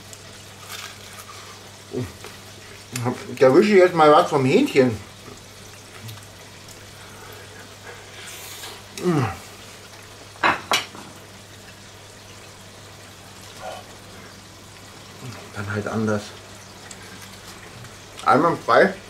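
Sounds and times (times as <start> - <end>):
food sizzling in deep fryer: 0.0 - 19.0.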